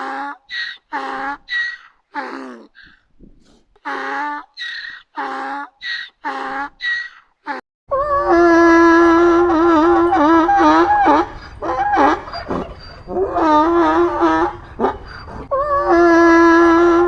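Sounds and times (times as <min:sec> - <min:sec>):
donkey braying: 0:00.0 - 0:17.0.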